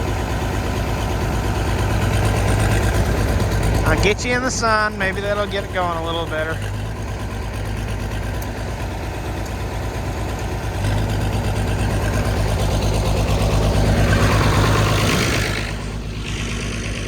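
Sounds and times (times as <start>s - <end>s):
diesel tractor engine revving: 0.0s - 17.0s.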